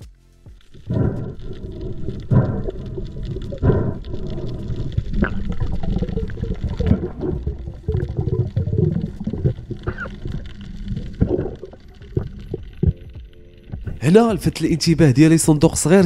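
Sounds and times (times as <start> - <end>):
underwater rumble of water: 0.6 - 14.0.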